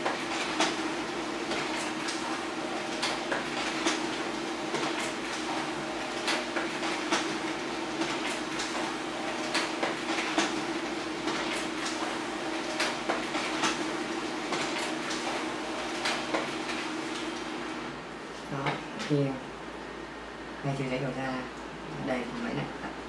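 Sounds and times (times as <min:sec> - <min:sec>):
printer motor hum: 0:00.0 - 0:19.0.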